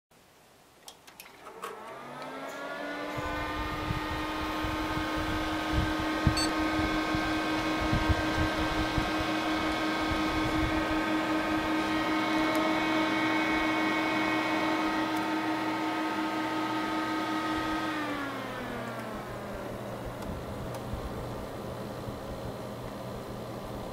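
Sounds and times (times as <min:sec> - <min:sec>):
cooler fan whirring hum: 0:01.8 - 0:23.9.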